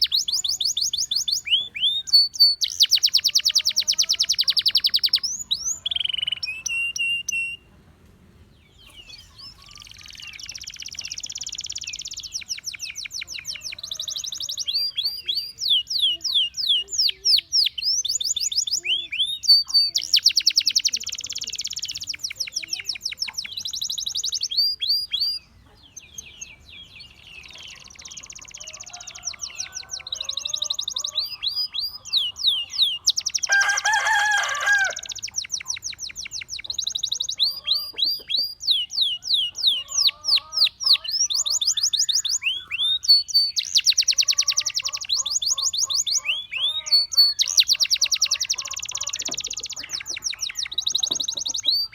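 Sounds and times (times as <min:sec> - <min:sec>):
canary singing trills: 0:00.0 - 0:07.7, 0:08.7 - 0:51.9.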